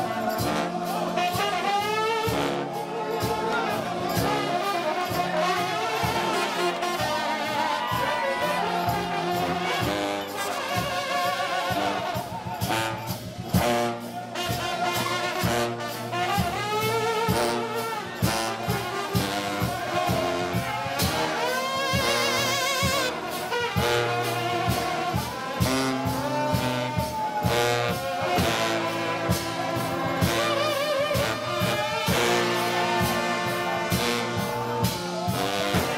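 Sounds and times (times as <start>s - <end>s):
driving beat: 0.0s - 35.9s
trombone band playing gospel: 0.0s - 35.9s.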